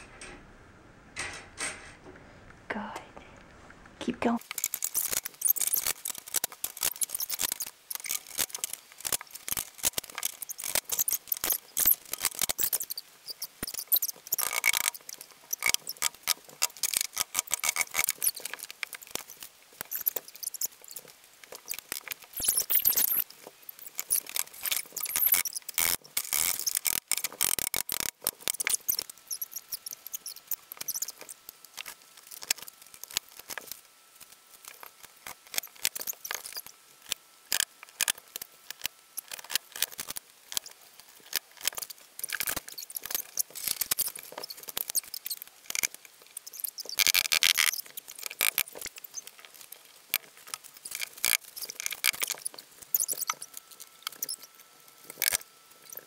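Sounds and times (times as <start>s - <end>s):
faint steady whine: 0.0s - 56.0s.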